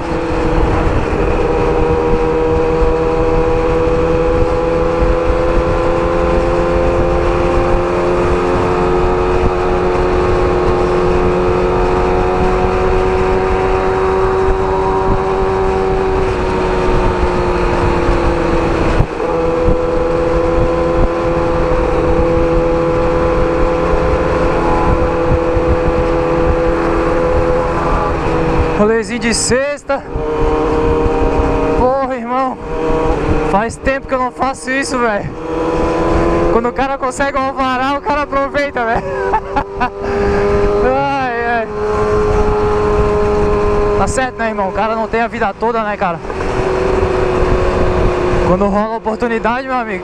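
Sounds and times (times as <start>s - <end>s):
motorcycle engine running: 0.0s - 50.0s
wind noise on microphone: 0.0s - 50.0s.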